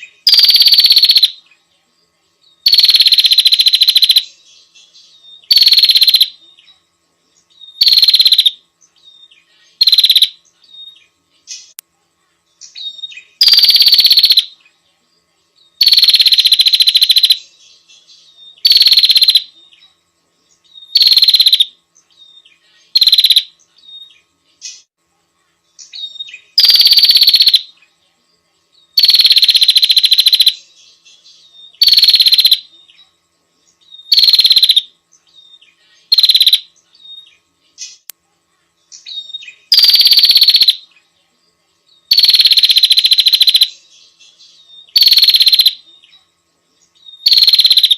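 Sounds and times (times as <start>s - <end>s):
soft bird chirps: 0.0s - 47.9s
songbird buzzy trills: 0.0s - 47.9s.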